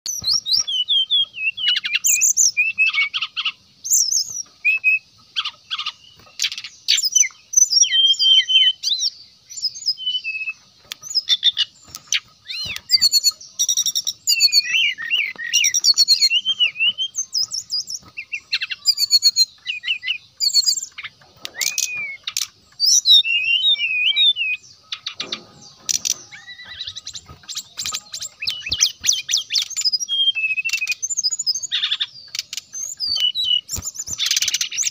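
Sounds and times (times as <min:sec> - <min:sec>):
bird singing whistled notes: 0:00.0 - 0:34.9.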